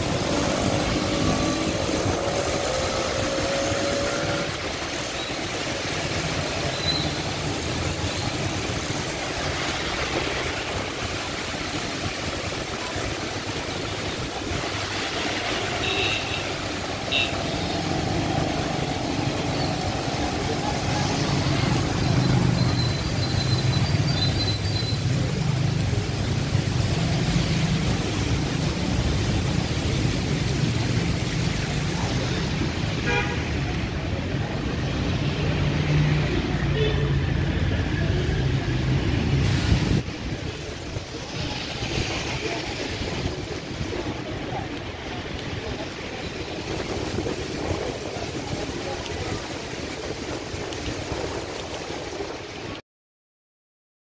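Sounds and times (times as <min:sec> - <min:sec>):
steady rain: 0:00.0 - 0:52.8
traffic on wet street: 0:00.0 - 0:52.8.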